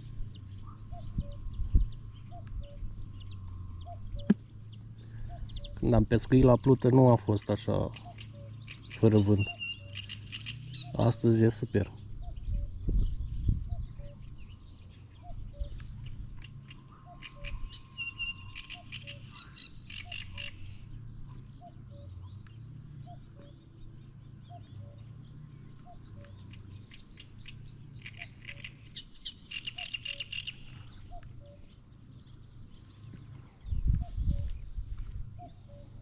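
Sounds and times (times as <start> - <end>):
birds chirping and singing: 0.0 - 36.0.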